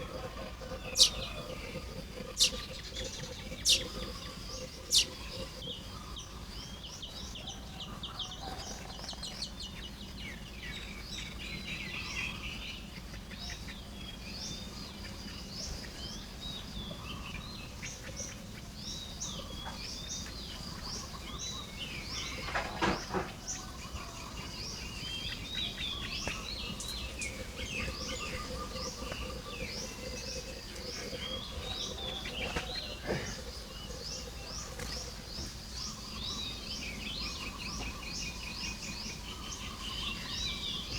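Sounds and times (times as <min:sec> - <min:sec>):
birds chirping and trilling: 0:00.0 - 0:40.9.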